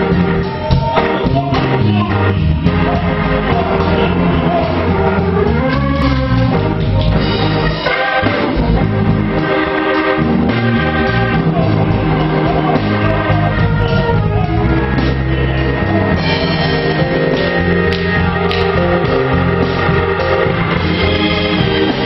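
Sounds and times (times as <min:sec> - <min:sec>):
worship music with singing: 0:00.0 - 0:22.0.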